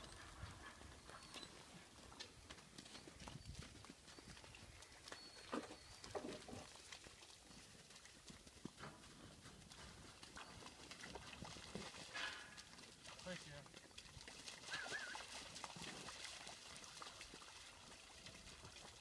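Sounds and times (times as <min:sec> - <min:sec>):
cattle hooves on frozen ground: 0:00.0 - 0:19.0.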